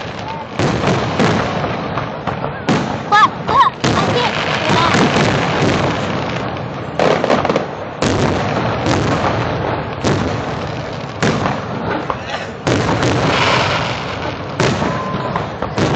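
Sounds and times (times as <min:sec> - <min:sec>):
crowd voices: 0:00.0 - 0:15.9
fireworks bangs: 0:00.0 - 0:15.9
fireworks crackling and rumble: 0:00.0 - 0:15.9.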